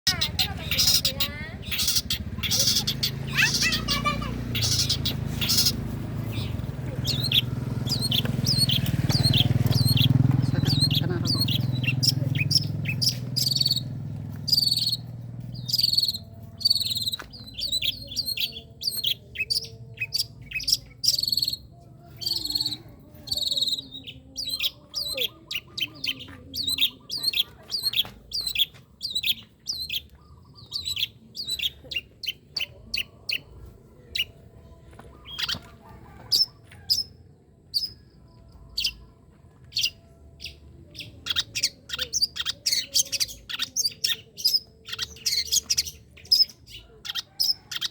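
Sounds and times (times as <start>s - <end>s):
soft warbled bird phrases: 0.0s - 34.4s, 35.1s - 37.1s, 39.7s - 47.9s
shrike singing sharp calls: 0.1s - 33.5s, 39.7s - 47.9s.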